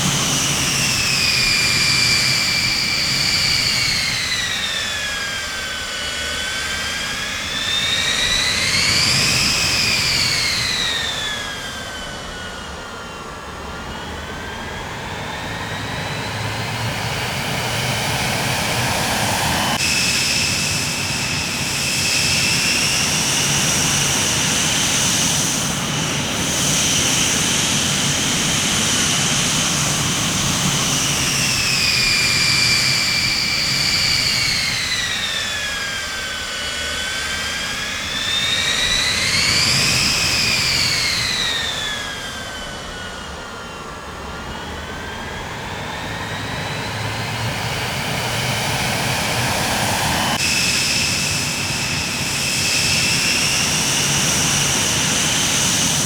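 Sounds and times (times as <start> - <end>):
jet engines whining: 0.0 - 56.0
engine rushing noise: 6.2 - 56.0.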